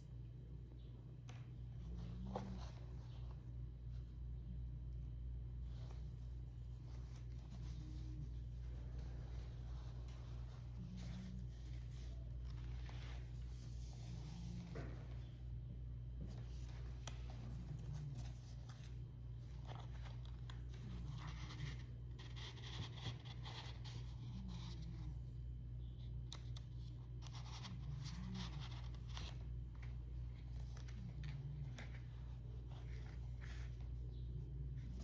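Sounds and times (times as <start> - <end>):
paper rustling and scratching: 0.0 - 15.6, 16.2 - 25.3, 26.0 - 35.0
steady low hum: 0.0 - 35.0.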